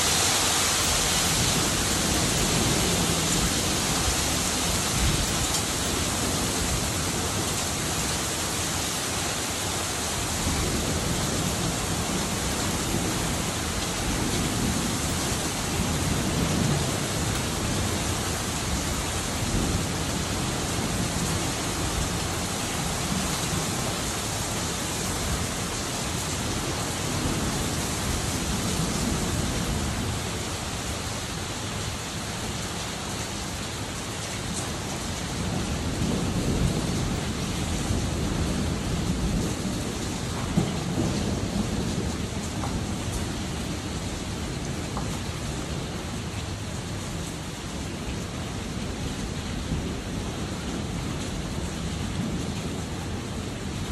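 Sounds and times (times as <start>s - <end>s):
heavy rain on pavement: 0.0s - 53.9s.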